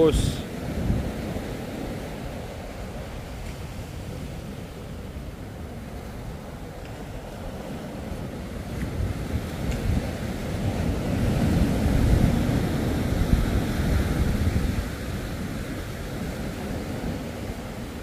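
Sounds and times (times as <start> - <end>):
ocean surf: 0.0 - 18.0
wind buffeting microphone: 0.0 - 18.0.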